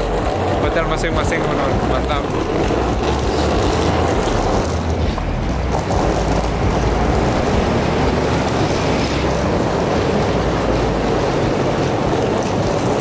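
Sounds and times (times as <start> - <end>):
street traffic: 0.0 - 13.0
wind buffeting microphone: 0.0 - 13.0.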